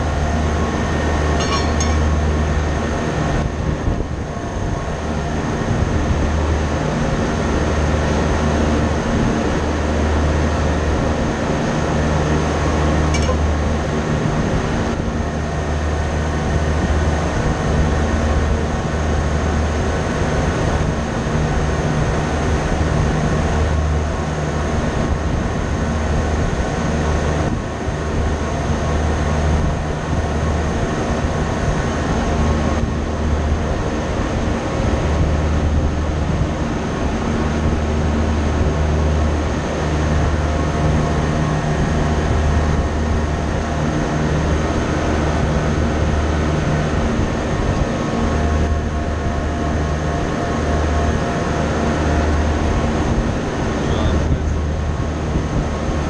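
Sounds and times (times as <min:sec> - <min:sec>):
machinery droning: 0:00.0 - 0:56.0.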